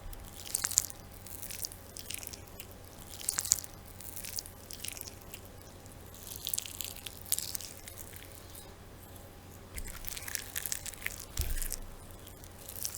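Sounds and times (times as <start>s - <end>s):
wet squishing of meat: 0.2s - 8.6s, 9.8s - 12.9s.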